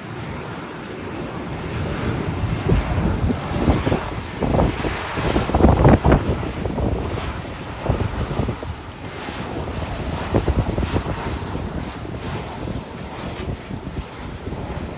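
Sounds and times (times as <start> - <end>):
airliner engines rumbling: 0.0 - 14.9.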